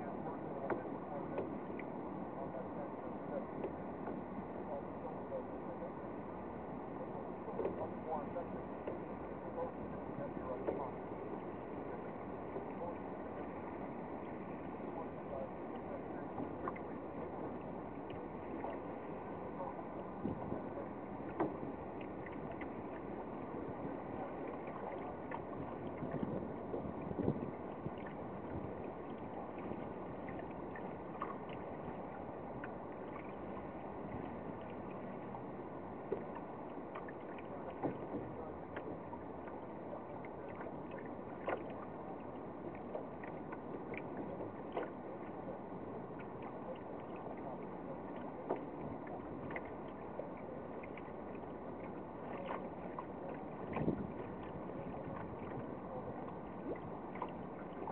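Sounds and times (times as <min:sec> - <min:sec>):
water washing along hull: 0:00.0 - 0:57.9.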